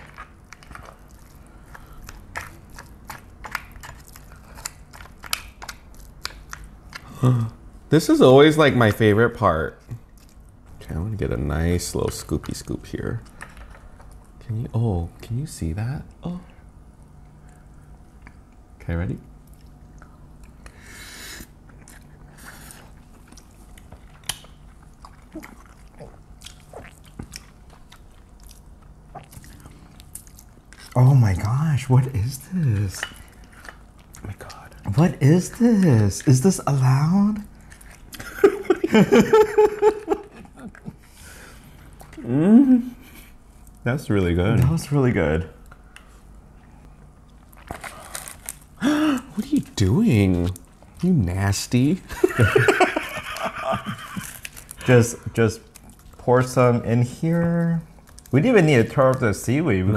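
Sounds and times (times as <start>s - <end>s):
soft wet chewing: 0.0s - 7.8s, 9.4s - 15.4s, 16.0s - 43.9s, 45.5s - 51.4s, 52.2s - 59.4s.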